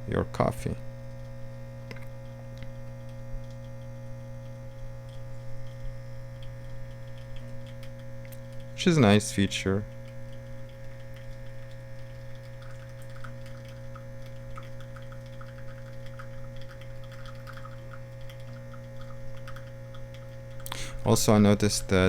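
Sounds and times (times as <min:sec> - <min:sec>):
coffee machine pump humming: 0:00.0 - 0:22.0.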